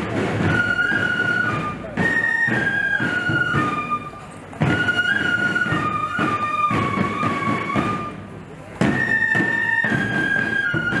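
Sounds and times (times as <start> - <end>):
drum strokes: 0.0 - 11.0
flutes playing a melody: 0.0 - 11.0.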